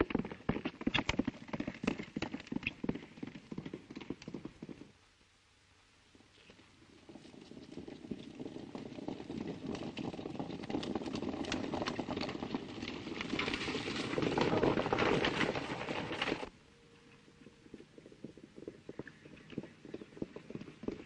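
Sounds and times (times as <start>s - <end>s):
horses galloping hoofbeats: 0.0s - 5.1s, 6.4s - 21.0s.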